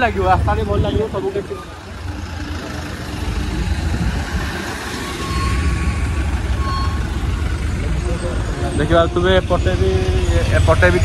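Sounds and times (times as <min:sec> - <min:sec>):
road and wind noise: 0:00.0 - 0:11.0
trucks passing: 0:00.0 - 0:11.0.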